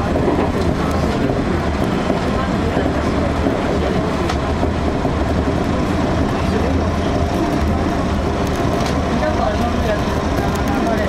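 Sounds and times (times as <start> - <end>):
train hum and rail noise: 0.0 - 11.0.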